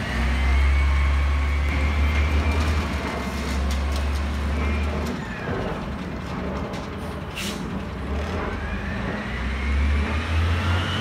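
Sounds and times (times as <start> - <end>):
garbage truck diesel engine: 0.0 - 11.0.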